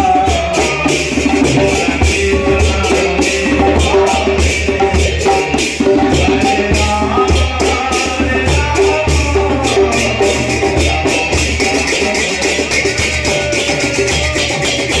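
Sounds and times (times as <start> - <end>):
hand cymbals clashing: 0.0 - 15.0.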